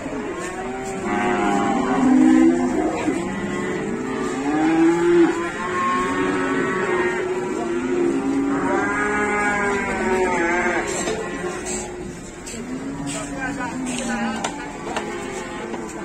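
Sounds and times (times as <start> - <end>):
cows mooing: 0.0 - 16.0.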